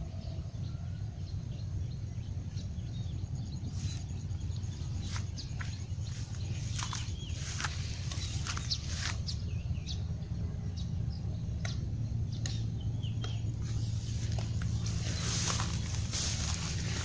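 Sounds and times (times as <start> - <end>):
bird chirps: 0.0 - 17.0
steady low rumble: 0.0 - 17.0.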